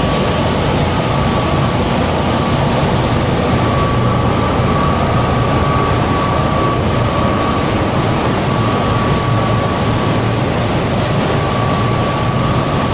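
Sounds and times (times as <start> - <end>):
low machinery hum: 0.0 - 12.9
machinery high whine: 0.0 - 12.9.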